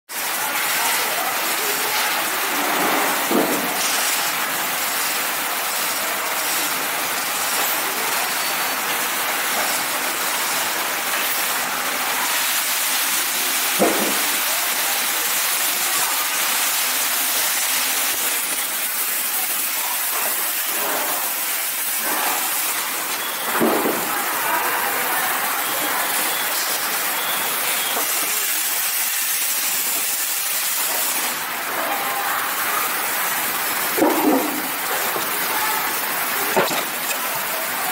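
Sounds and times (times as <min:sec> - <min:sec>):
factory workshop hiss: 0:00.2 - 0:37.9.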